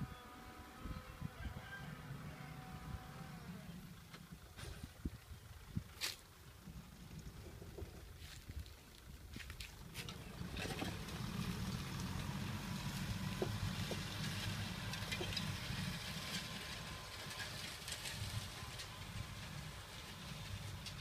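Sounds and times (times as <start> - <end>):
tractor engine rumbling: 0.0 - 21.0.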